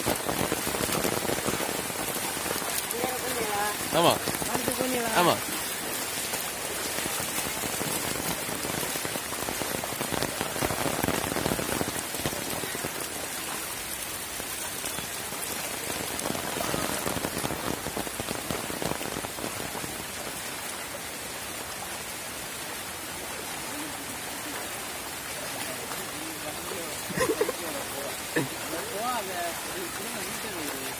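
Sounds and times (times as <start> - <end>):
rain on hard surfaces: 0.0 - 30.9.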